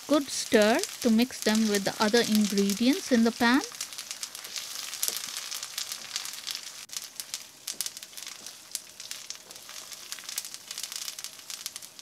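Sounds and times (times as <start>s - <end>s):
food sizzling and crackling in oil: 0.0s - 12.0s.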